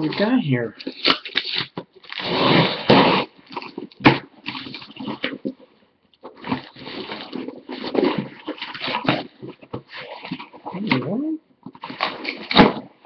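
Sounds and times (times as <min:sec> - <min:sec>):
cardboard package tearing: 0:00.0 - 0:05.6, 0:06.2 - 0:11.0, 0:11.8 - 0:13.0
rustling: 0:00.0 - 0:12.8.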